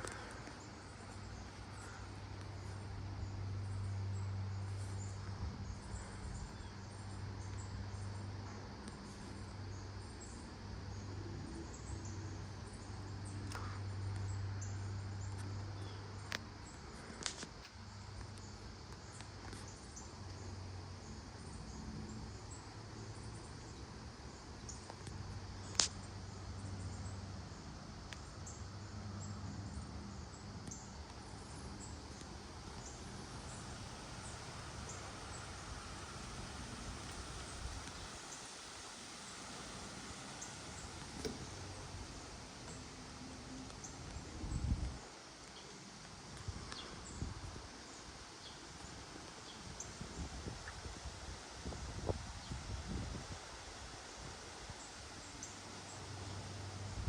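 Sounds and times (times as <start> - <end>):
insects chirping: 0.0 - 57.0
low steady hum: 0.0 - 57.0.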